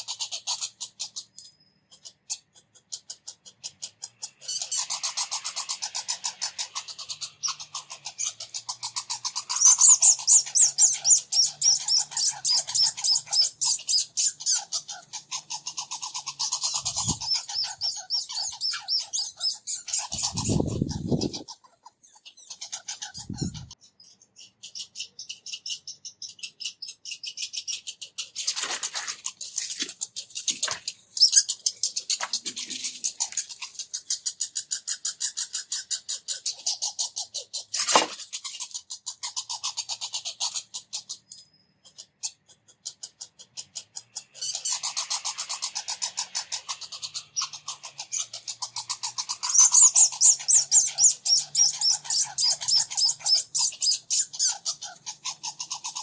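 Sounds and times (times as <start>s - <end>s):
squirrels chattering: 0.0s - 56.0s.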